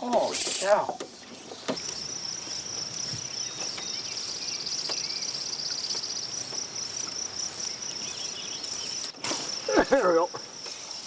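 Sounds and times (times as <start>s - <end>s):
insects trilling: 0.0s - 11.0s
faint chirps: 0.6s - 11.0s.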